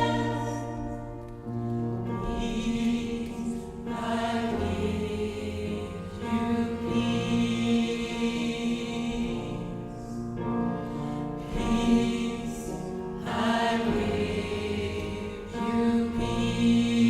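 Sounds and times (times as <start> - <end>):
gospel choir singing: 0.0 - 17.0.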